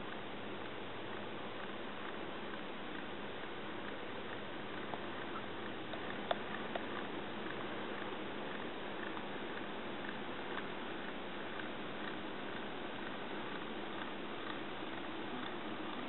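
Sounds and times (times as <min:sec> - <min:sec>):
faint ticks: 0:00.0 - 0:16.0
steady recording hiss: 0:00.0 - 0:16.0.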